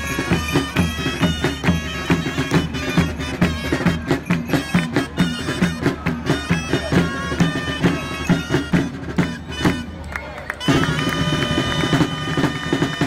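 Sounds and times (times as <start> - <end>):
steady drum beat: 0.0 - 9.9, 10.7 - 13.0.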